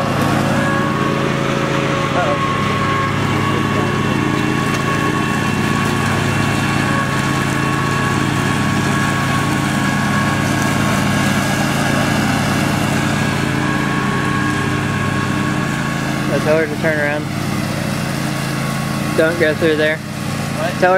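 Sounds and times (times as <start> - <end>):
garden tractor engine running: 0.0 - 20.9.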